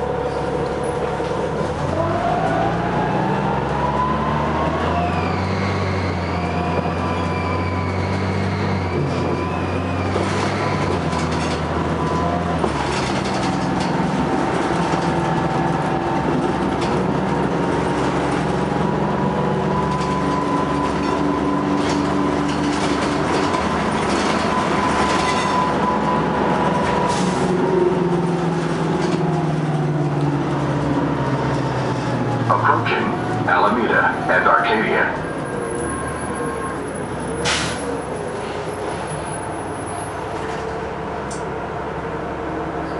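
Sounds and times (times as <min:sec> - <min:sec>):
bus engine running: 0:00.0 - 0:42.9
road noise: 0:00.0 - 0:42.9.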